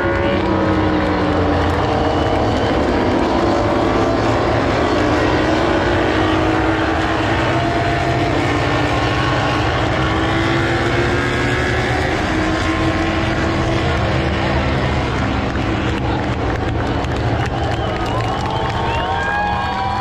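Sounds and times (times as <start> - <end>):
racing motorcycle engines: 0.0 - 20.0.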